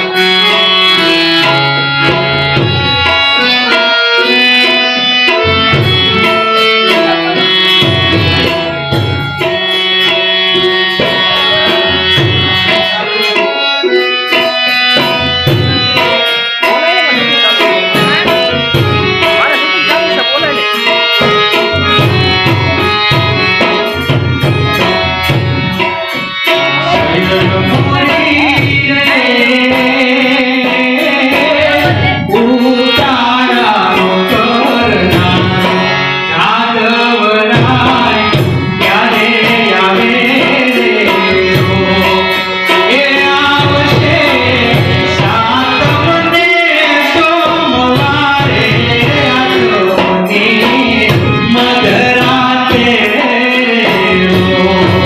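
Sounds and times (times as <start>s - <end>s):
harmonium: 0.0s - 55.0s
man singing: 0.0s - 55.0s
tabla rhythm: 0.0s - 55.0s.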